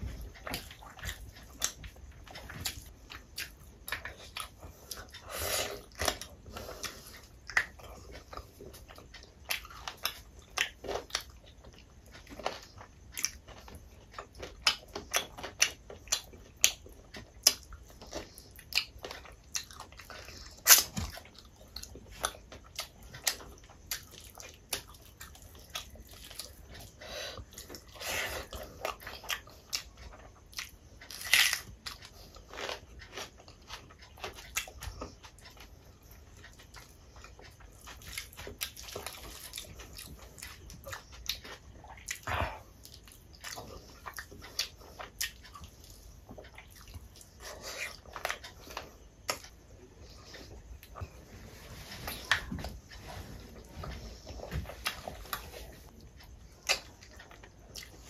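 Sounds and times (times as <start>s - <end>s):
chewing and lip smacks: 0.1s - 51.3s, 52.0s - 58.0s.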